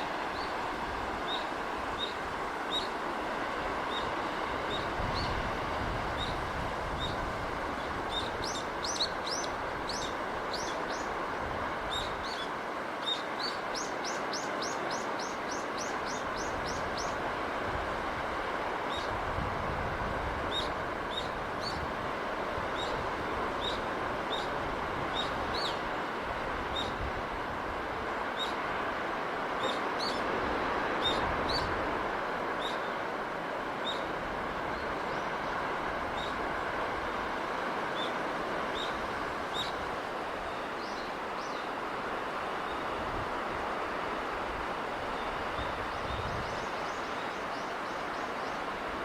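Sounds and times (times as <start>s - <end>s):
sea wind: 0.0s - 49.0s.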